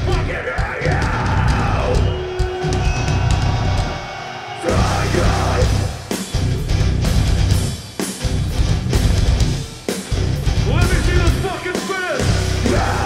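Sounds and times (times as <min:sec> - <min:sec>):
heavy metal band playing live: 0:00.0 - 0:13.0.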